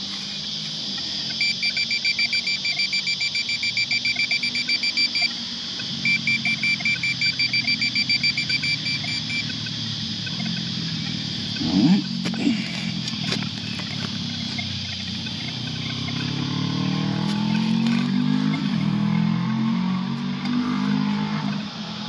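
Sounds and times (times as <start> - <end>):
insect chirring: 0.0 - 22.0
metal detector beeping rapidly: 1.2 - 19.2.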